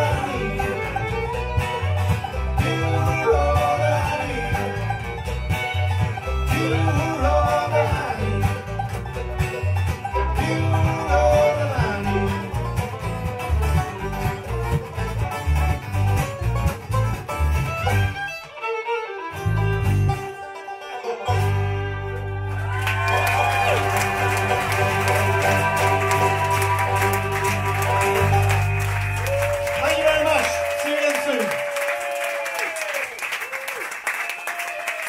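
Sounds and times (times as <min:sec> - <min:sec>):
bluegrass band playing: 0:00.0 - 0:31.6.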